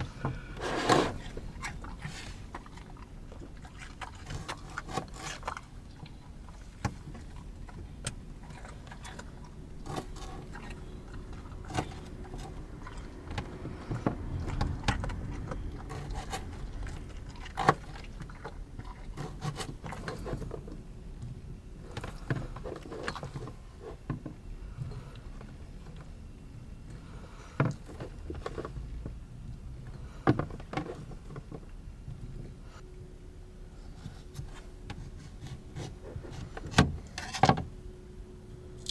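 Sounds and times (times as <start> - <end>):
low steady rumble: 0.0 - 38.9.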